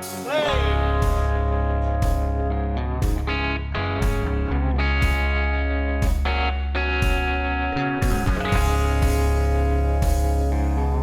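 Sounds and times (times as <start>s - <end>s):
distorted electric guitar: 0.0s - 11.0s
heavy steady bass: 0.0s - 11.0s.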